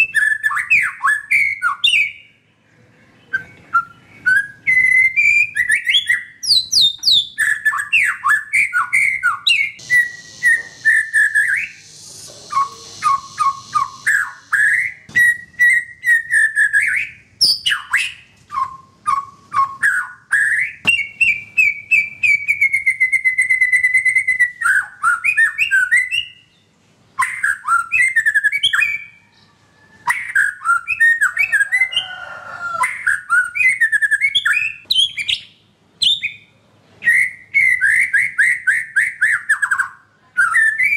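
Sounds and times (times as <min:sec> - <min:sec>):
bird singing whistled phrases: 0:00.0 - 0:02.4, 0:03.2 - 0:26.6, 0:27.2 - 0:40.9.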